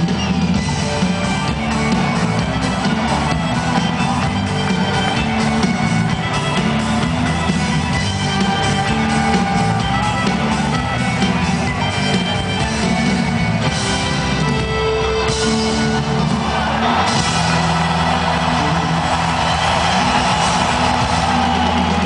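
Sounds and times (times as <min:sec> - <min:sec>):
folk-rock band playing live: 0:00.0 - 0:22.0.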